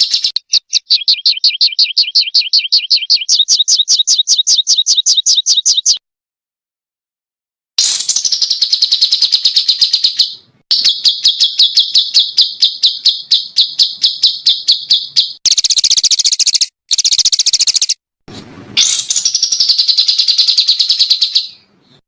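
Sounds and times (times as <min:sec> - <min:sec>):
songbirds trilling: 0:00.0 - 0:06.0, 0:07.8 - 0:18.0, 0:18.8 - 0:22.0.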